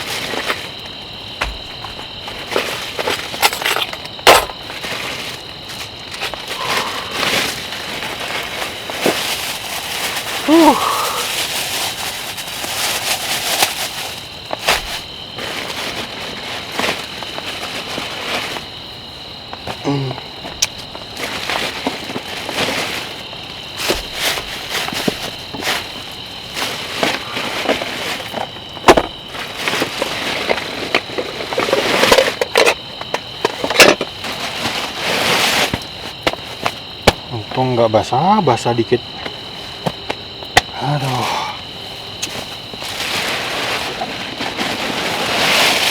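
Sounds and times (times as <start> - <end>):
crackling and rustling: 0.0 - 45.9
high insect trill: 0.0 - 45.9.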